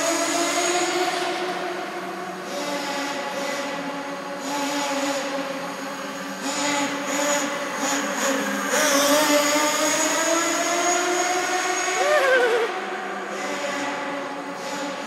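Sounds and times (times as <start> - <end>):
small nitro engine revving: 2.5 - 15.0.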